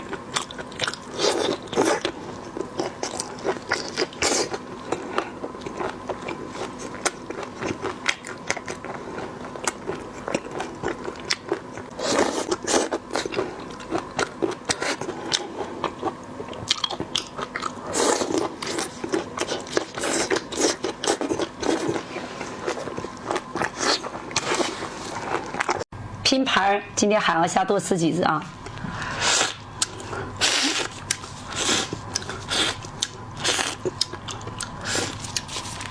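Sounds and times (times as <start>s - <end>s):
person chewing crunchy food: 0.0s - 25.9s, 28.6s - 35.9s.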